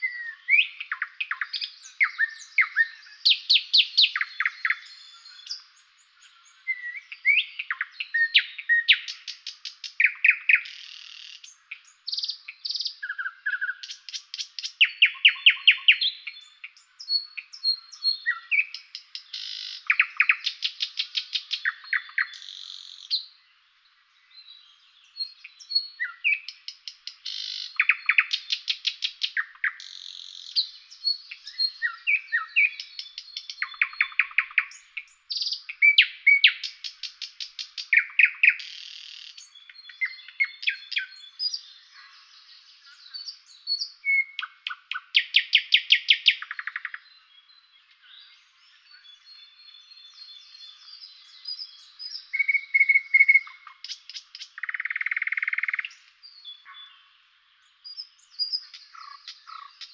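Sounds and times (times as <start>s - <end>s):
nightingale singing: 0.0s - 59.9s.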